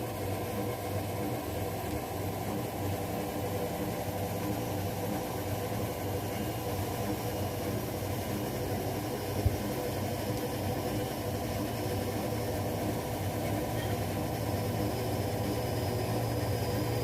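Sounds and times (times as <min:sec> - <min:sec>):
washing machines humming: 0:00.0 - 0:17.0.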